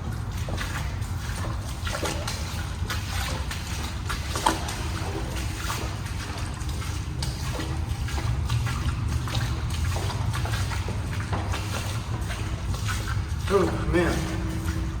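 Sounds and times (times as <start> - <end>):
footsteps splashing through water: 0.0 - 15.0.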